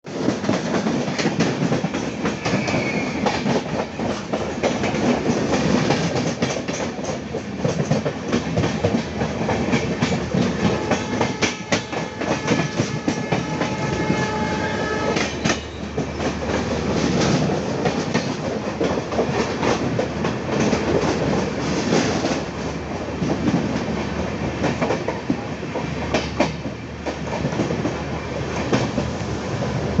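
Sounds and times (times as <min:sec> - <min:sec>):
train wheels clattering over rails: 0:00.1 - 0:30.0.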